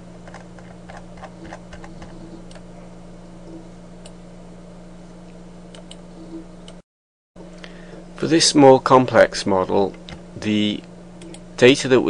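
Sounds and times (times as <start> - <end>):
electrical hum and hiss: 0.0 - 6.8, 7.4 - 12.0.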